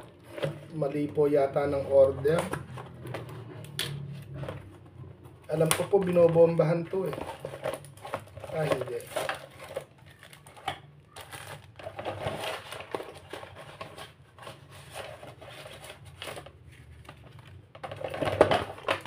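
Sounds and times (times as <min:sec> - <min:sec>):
plastic packaging rustling: 0:00.0 - 0:19.0.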